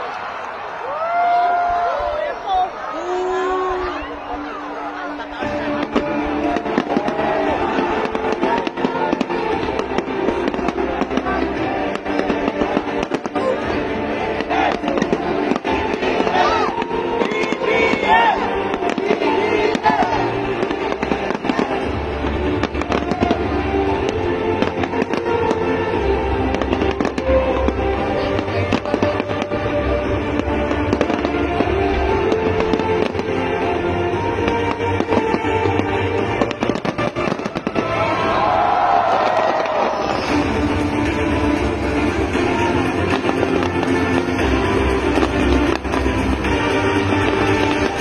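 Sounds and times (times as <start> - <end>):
music: 0.8 - 48.0
fireworks bangs and crackles: 5.1 - 48.0.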